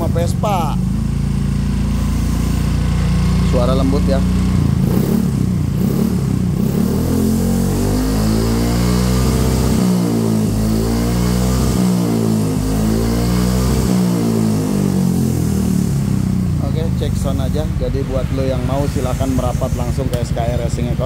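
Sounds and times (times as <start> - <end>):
scooter engine revving: 0.0 - 21.0.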